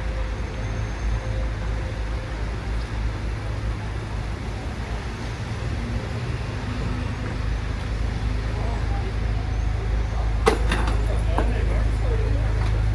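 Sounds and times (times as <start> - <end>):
low traffic rumble: 0.0 - 12.9.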